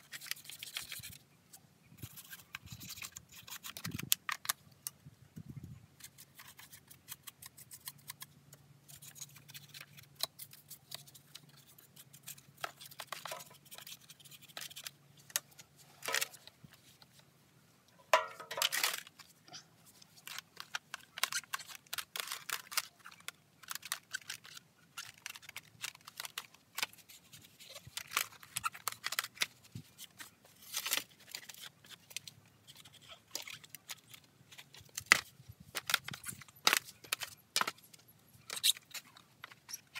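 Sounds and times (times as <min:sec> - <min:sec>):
clicks and knocks of handling: 0:06.0 - 0:17.2, 0:17.8 - 0:39.9.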